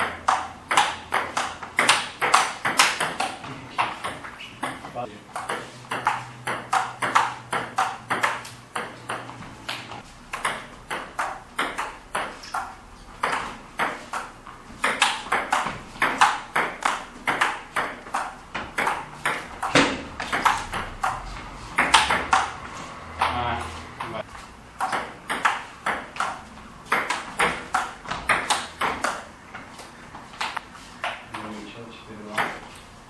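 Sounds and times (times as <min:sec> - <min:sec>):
table tennis ball clicking: 0:00.0 - 0:22.6, 0:24.8 - 0:29.3.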